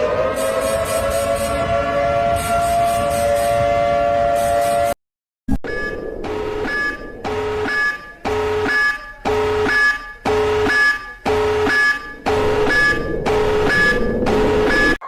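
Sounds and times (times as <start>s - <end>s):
emergency alert alarm tone: 0.0s - 5.0s, 5.6s - 15.0s.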